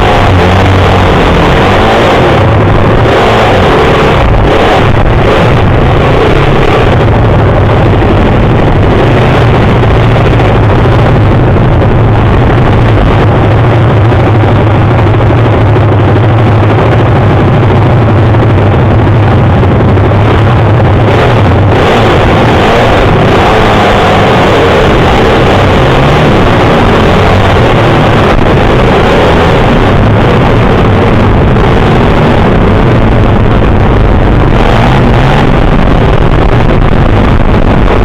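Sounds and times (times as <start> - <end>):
motorcycle engines racing: 0.0 - 38.0.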